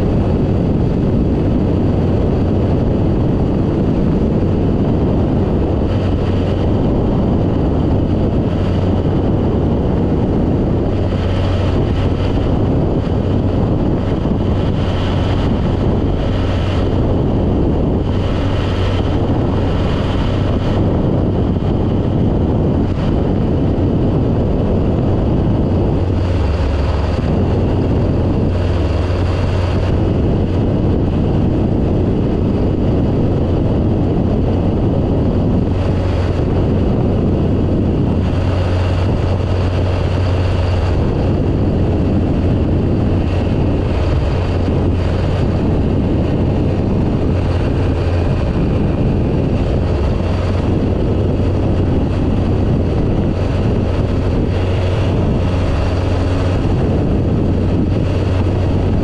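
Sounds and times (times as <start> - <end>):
aircraft engine droning: 0.0 - 59.0
wind rushing over microphone: 0.0 - 59.0.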